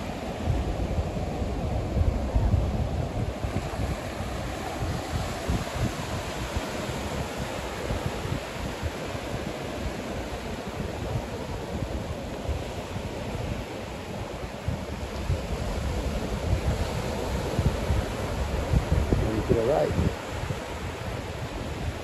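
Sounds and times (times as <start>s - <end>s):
ocean surf washing onto beach: 0.0s - 22.0s
wind gusting over microphone: 0.0s - 22.0s.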